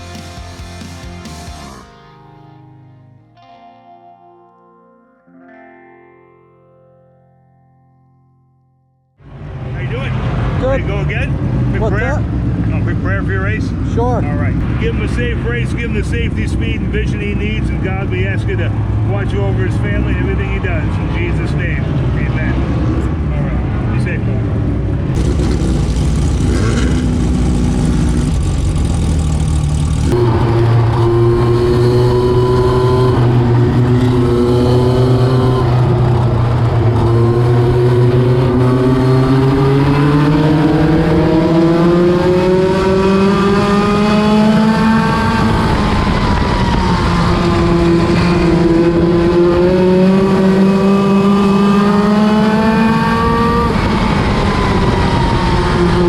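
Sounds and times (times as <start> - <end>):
race car engines: 9.2 - 56.0.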